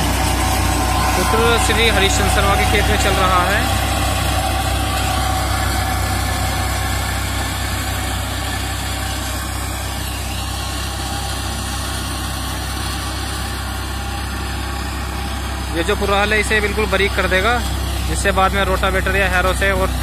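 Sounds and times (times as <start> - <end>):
mulcher whirring: 0.0 - 20.0
tractor diesel engine drone: 0.0 - 20.0.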